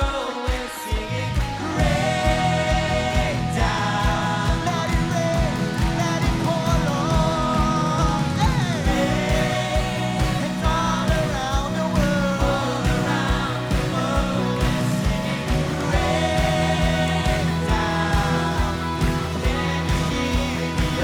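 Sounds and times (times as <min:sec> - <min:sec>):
kick drum beat: 0:00.0 - 0:21.0
rock band playing: 0:00.0 - 0:21.0.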